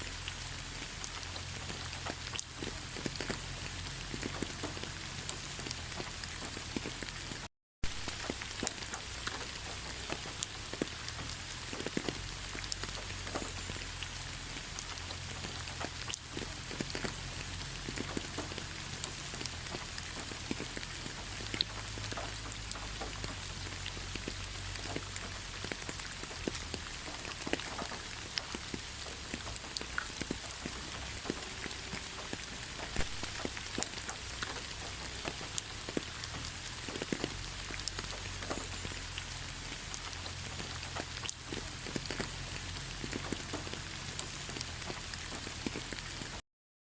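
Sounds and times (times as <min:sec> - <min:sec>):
gentle rain with drops ticking: 0:00.0 - 0:46.4.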